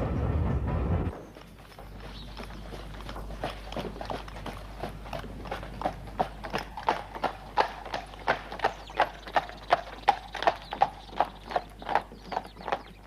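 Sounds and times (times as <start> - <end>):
horse hooves clip-clopping: 1.1 - 13.0.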